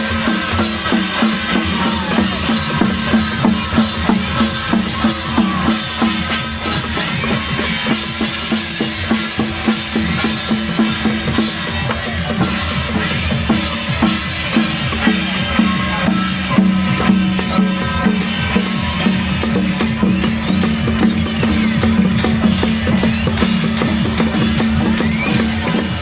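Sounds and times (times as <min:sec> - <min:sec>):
loud music with drum beat: 0:00.0 - 0:26.0
percussion: 0:00.0 - 0:26.0.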